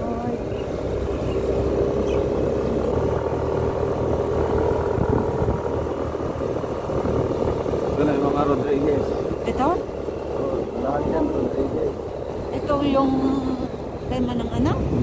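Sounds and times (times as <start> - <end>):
motorcycle engine running: 0.0 - 15.0
road rumble: 0.0 - 15.0
wind: 0.0 - 15.0.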